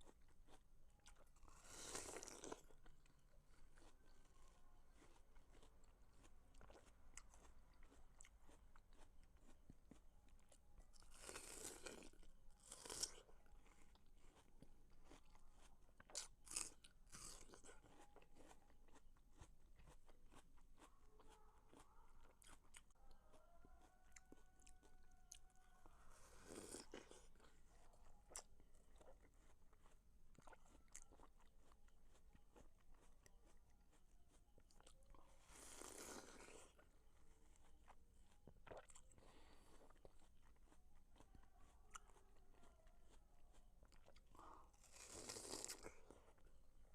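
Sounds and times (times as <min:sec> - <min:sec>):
person chewing watermelon: 0:00.0 - 0:46.9.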